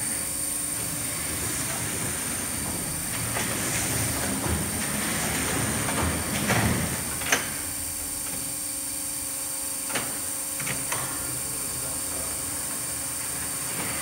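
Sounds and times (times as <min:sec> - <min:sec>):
press machine clatter and hum: 0:00.0 - 0:14.0.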